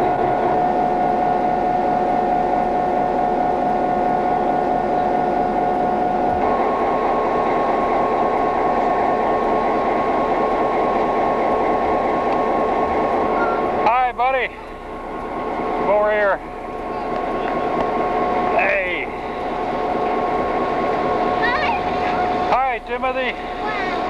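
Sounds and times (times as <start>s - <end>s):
locomotive hum: 0.0s - 24.0s.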